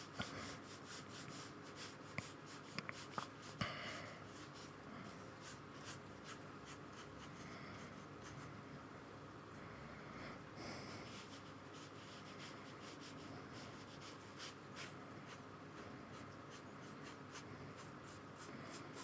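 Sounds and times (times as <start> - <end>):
paintbrush strokes on paper: 0.0 - 8.5, 11.0 - 19.0
low room hum: 0.0 - 19.0.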